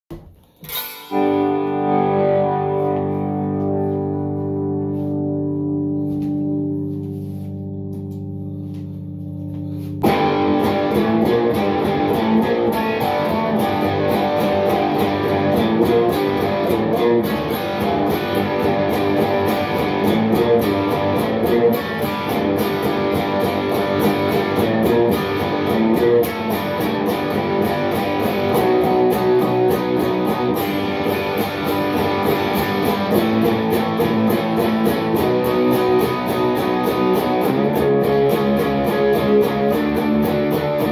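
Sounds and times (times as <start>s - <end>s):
distorted electric guitar strumming: 0.1s - 40.9s.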